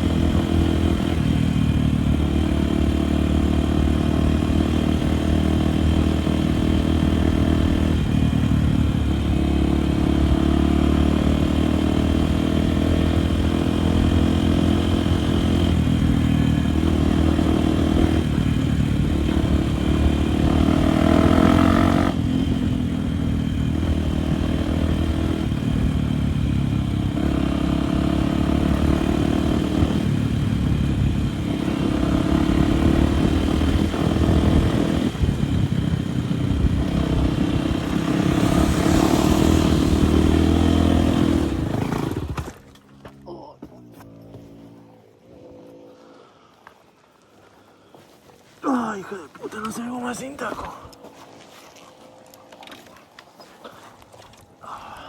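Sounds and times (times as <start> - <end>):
dirt bike engine revving: 0.0 - 46.5.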